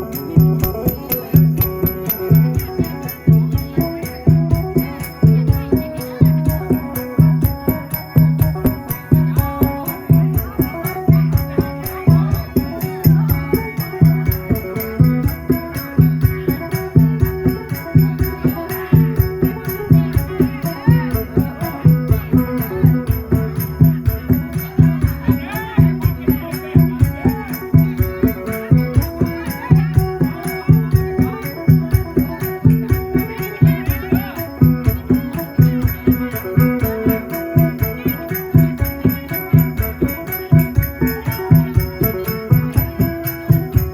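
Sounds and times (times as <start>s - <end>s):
plucked lute playing fast figures: 0.0s - 43.9s
shaker beat: 0.0s - 43.9s.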